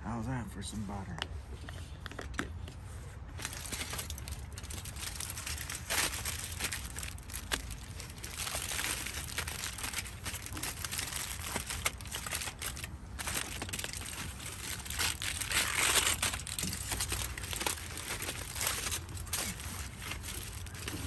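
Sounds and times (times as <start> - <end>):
aluminium foil crinkling: 3.4 - 21.0.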